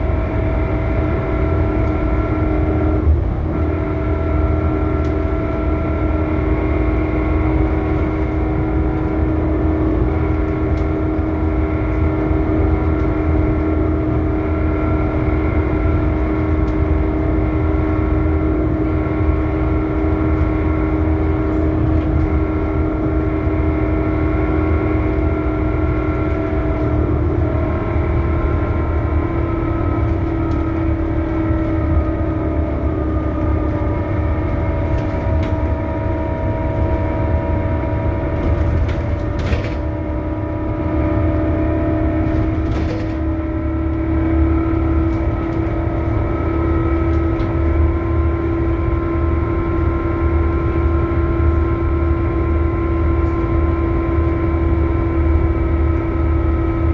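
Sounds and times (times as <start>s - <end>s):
bus drivetrain rumble: 0.0s - 56.9s
multi-tone drivetrain whine: 0.0s - 56.9s.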